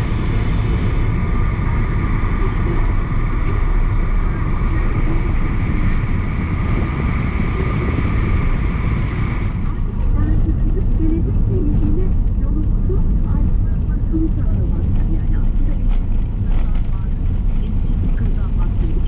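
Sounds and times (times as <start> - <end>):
low rumble of moving car: 0.0 - 19.0
road and tyre noise in rain: 0.0 - 19.0.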